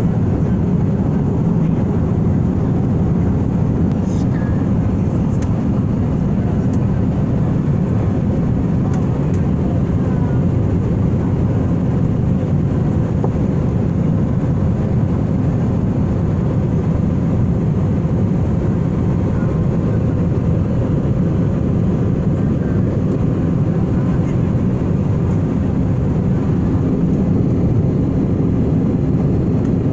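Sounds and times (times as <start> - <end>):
jet engines droning: 0.0 - 29.9.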